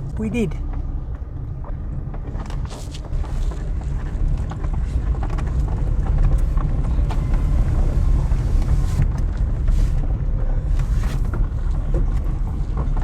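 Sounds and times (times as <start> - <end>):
vehicle low rumble: 0.0 - 13.0.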